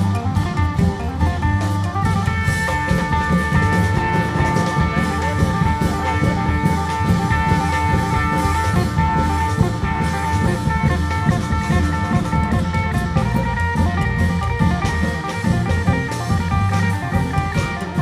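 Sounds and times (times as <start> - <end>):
heavy steady drumbeat: 0.0 - 18.0
sustained melody: 0.0 - 18.0.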